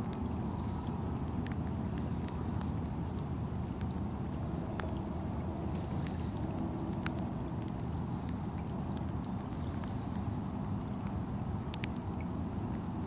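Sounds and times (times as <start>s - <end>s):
rain hissing on water: 0.0s - 13.0s
sharp raindrop ticks: 0.0s - 13.0s.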